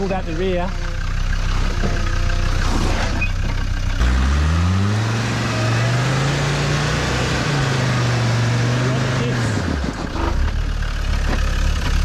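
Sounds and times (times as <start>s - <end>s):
engine labouring and revving: 0.0s - 12.0s.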